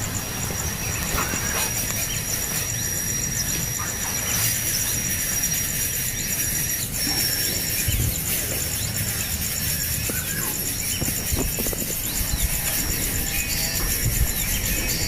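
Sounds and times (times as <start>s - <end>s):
high insect whine: 0.0s - 15.0s.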